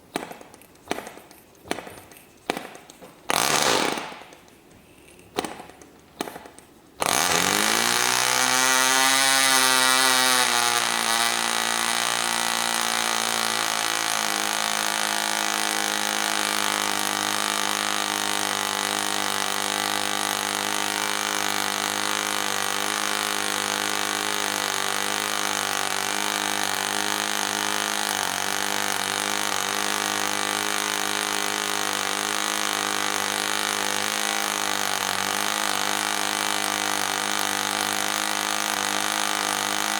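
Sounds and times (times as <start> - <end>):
model engine running: 7.0 - 39.9.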